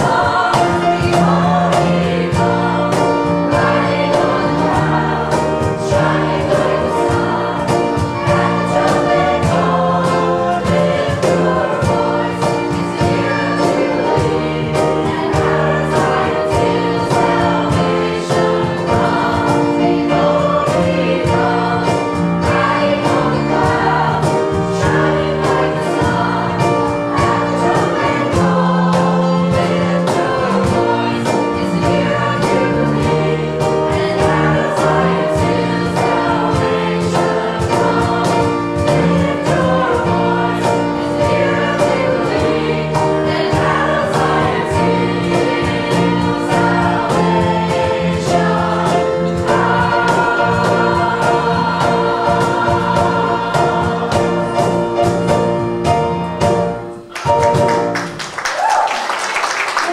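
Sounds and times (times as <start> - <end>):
choir singing: 0.0 - 57.4
accompaniment with steady beat: 0.0 - 58.3.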